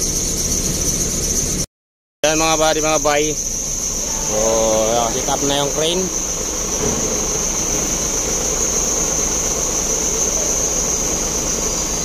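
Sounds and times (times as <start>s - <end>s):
diesel engine running: 0.0s - 12.0s
high insect drone: 0.0s - 12.0s.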